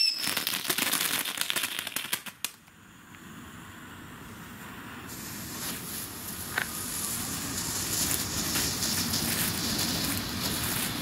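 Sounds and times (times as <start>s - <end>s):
firework sparks hissing: 0.0s - 2.6s, 4.6s - 11.0s.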